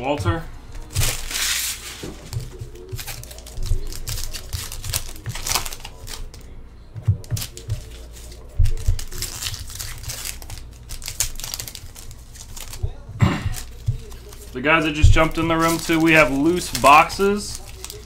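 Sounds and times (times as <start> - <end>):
plastic packaging crinkling: 0.7 - 6.6, 7.2 - 18.0.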